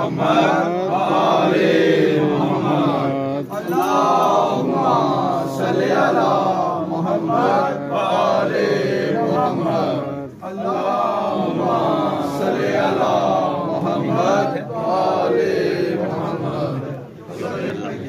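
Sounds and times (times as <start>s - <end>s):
men chanting together: 0.0s - 18.0s.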